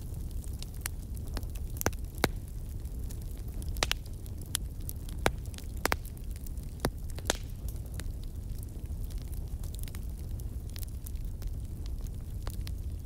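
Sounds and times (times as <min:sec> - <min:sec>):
fire crackling with pops: 0:00.0 - 0:13.0.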